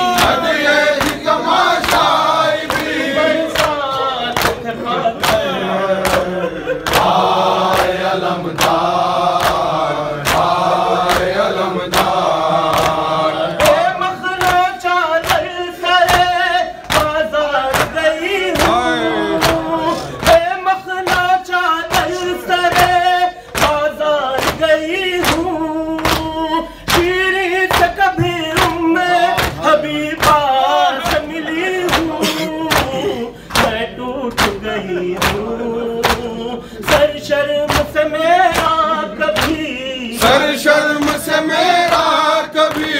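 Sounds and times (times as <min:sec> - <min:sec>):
men singing a lament: 0:00.0 - 0:42.9
steady beat of sharp strikes: 0:00.0 - 0:42.9.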